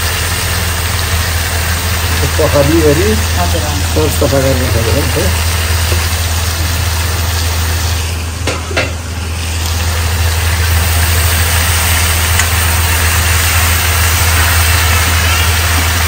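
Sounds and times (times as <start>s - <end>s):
low steady rumble: 0.0s - 15.8s
food sizzling in a pan: 0.0s - 16.0s.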